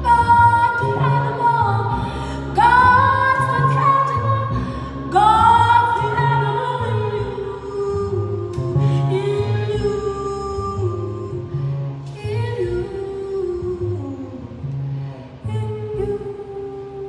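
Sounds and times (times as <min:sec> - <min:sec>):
woman singing long notes: 0:00.0 - 0:14.6
plucked double bass: 0:00.0 - 0:17.0.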